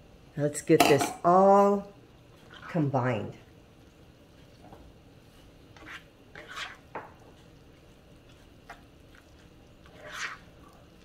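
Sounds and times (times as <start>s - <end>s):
spatula stirring wet filling: 1.8s - 11.0s.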